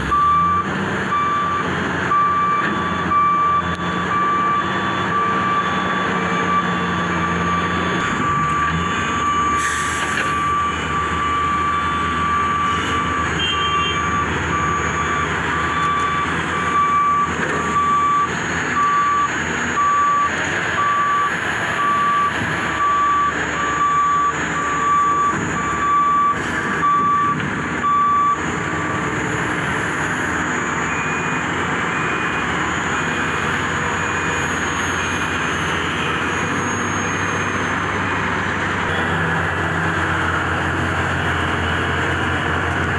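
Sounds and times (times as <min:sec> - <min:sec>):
reversing alarm beeping: 0:00.0 - 0:38.3
heavy diesel engines running: 0:00.0 - 0:42.9.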